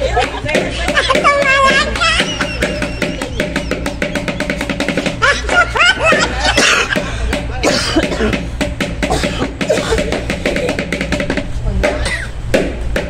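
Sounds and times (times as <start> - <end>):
drum and cymbals fast beat: 0.0 - 13.0.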